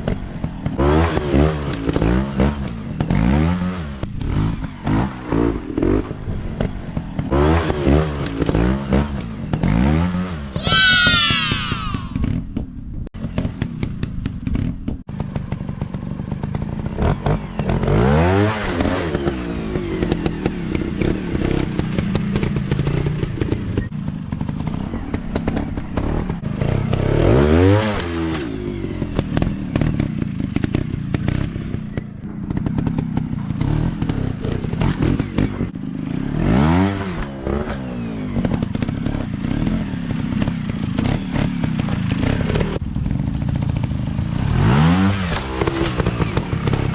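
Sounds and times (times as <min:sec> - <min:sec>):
knocks and clatter from riding: 0:00.0 - 0:10.0, 0:12.2 - 0:17.9, 0:18.6 - 0:27.1, 0:27.9 - 0:36.2, 0:37.1 - 0:44.1, 0:45.1 - 0:46.9
dirt bike engines running: 0:00.0 - 0:46.9
dirt bike engine revving: 0:00.5 - 0:12.2, 0:15.2 - 0:43.1, 0:43.7 - 0:46.9.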